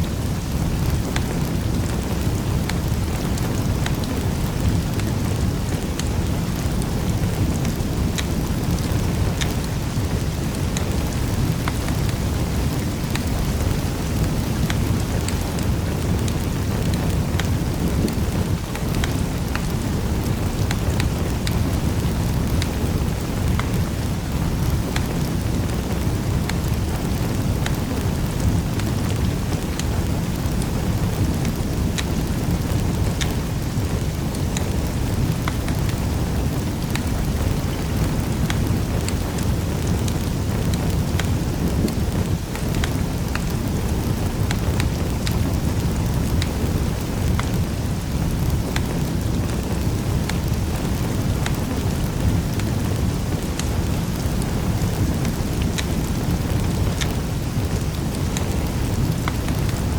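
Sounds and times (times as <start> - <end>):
fire crackles and pops: 0.0 - 59.9
wood fire rumbling: 0.0 - 59.9.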